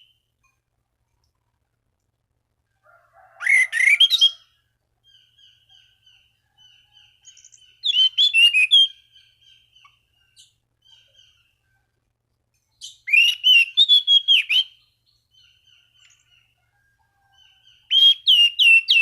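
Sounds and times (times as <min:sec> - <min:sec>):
soft repeated bird notes: 0:00.0 - 0:02.9, 0:03.6 - 0:19.0.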